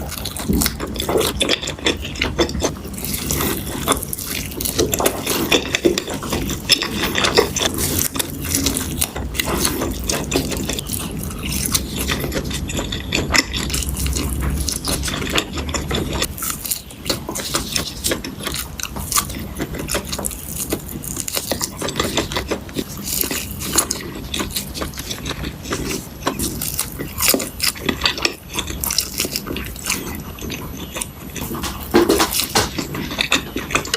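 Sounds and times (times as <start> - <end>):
food crunching while chewed: 0.0 - 33.9.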